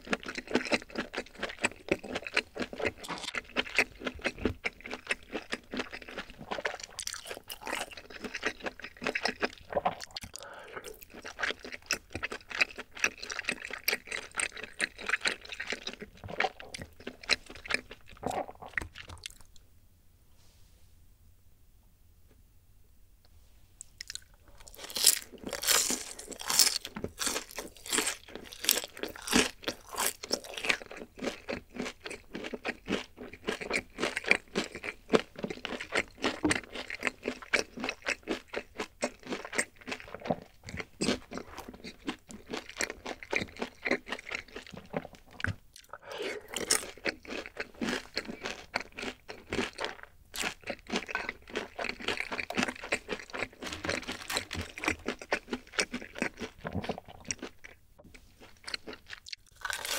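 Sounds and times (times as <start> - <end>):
crunching fried chicken: 0.0 - 19.6, 23.8 - 59.9.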